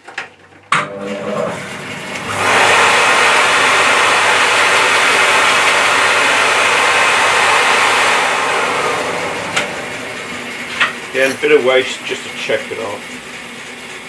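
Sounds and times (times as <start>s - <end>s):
bandsaw running: 0.9s - 14.0s
bandsaw cutting wood: 1.0s - 13.5s.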